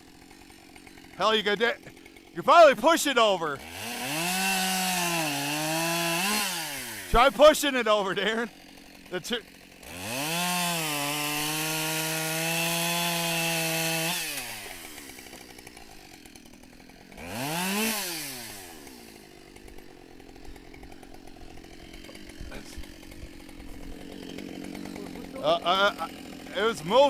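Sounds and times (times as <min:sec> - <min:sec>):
chainsaw revving and cutting: 0:00.0 - 0:27.0.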